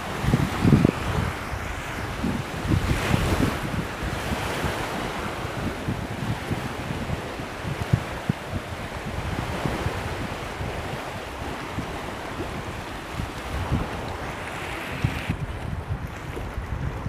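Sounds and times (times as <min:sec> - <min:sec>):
waves splashing on concrete: 0:00.0 - 0:17.0
wind buffeting microphone: 0:00.0 - 0:17.0.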